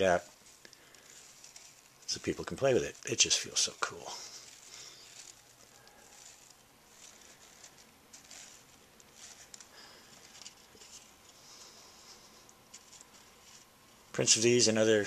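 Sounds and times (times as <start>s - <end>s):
woven cup rustling and clicking: 0.0s - 14.5s.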